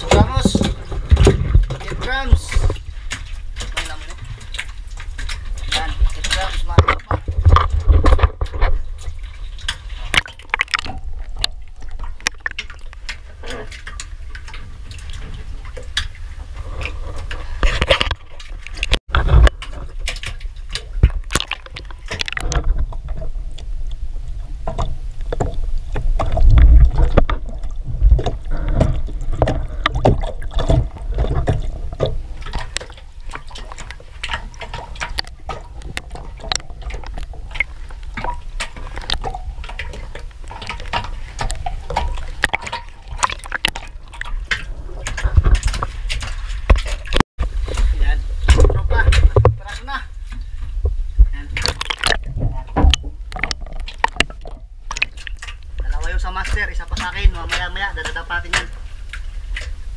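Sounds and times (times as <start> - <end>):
water sloshing and splashing: 0.0 - 59.9.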